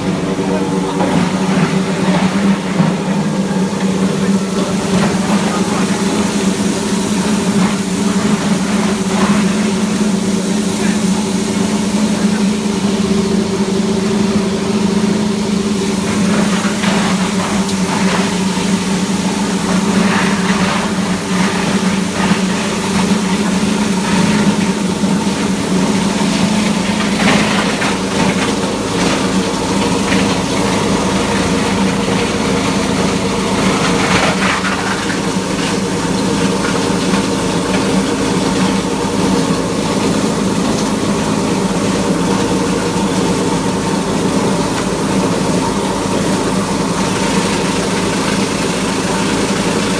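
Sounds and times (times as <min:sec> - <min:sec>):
granulator clattering: 0:00.0 - 0:49.9
plastic granulator humming: 0:00.0 - 0:49.9.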